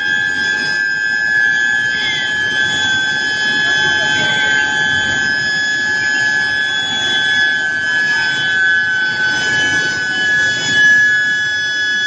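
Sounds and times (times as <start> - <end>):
furnace high-pitched whine: 0.0 - 12.0.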